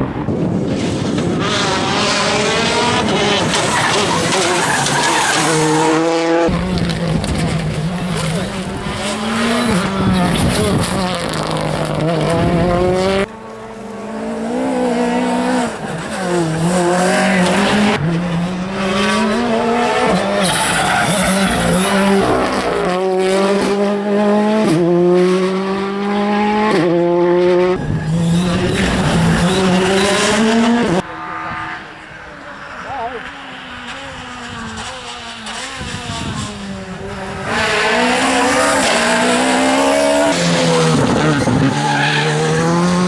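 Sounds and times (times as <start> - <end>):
rally car engines at full throttle: 0.0 - 43.0.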